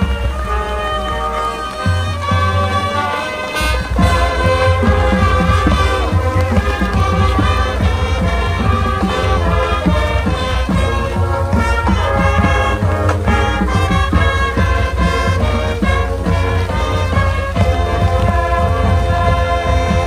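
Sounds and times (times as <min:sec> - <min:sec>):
marching band with brass horns: 0:00.0 - 0:20.0.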